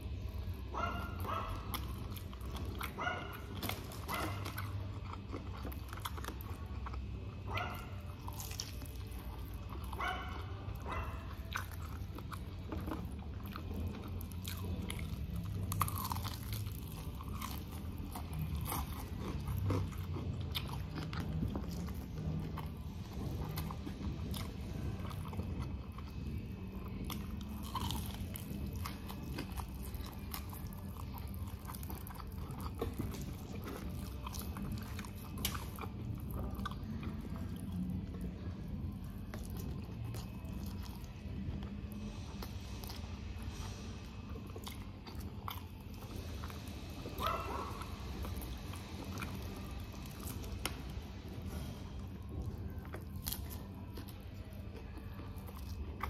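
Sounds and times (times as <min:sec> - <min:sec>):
crunching fried chicken: 0:00.0 - 0:56.0.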